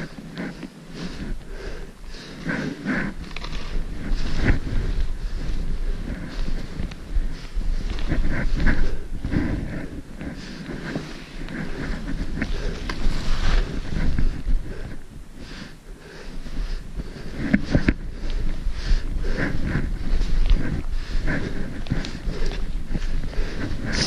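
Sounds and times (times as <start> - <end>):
footsteps crunching in snow: 0.0 - 24.0
person breathing: 0.0 - 24.0
wind on microphone: 0.0 - 24.0.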